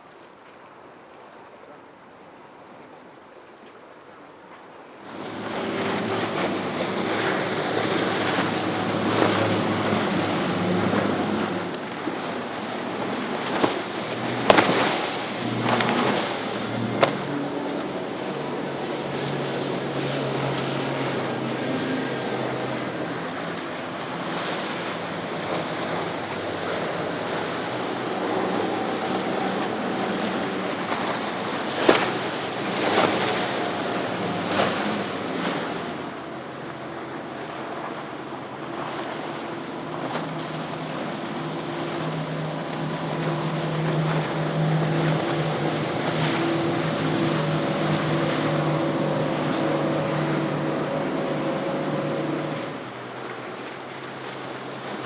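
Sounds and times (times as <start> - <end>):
waves and wake washing: 0.0 - 55.0
wind on microphone: 5.0 - 53.6
boat engines droning: 5.0 - 55.0.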